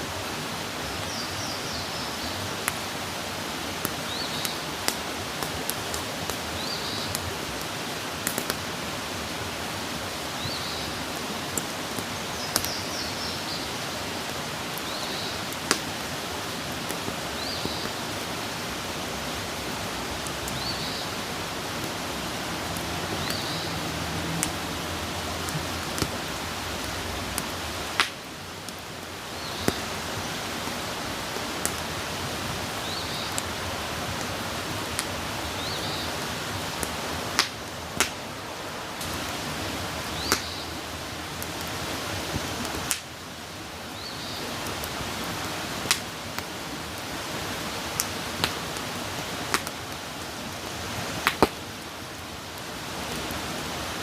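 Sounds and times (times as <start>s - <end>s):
wood campfire crackling: 0.0s - 54.0s.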